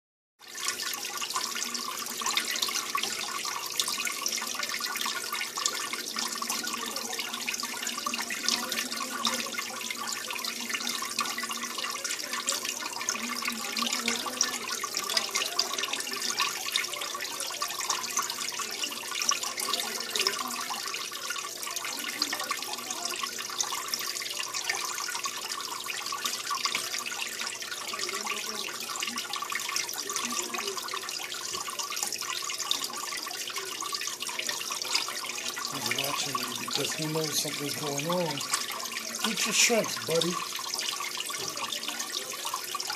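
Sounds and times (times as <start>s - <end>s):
water trickling into tank: 0.4s - 42.9s.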